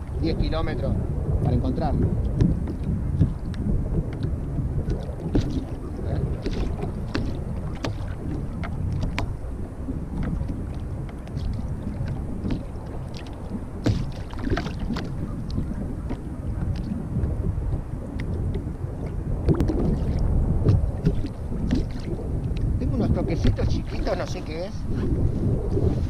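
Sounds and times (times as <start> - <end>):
wind rumbling on microphone: 0.0 - 26.0
water sloshing at shore: 1.6 - 26.0.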